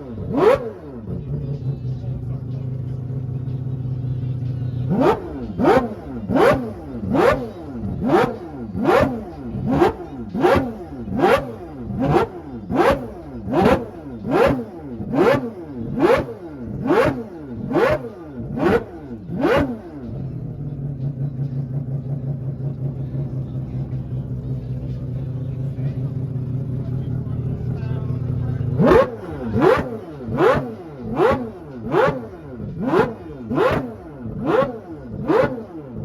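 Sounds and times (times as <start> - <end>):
rotary engine revving: 0.0 - 36.0.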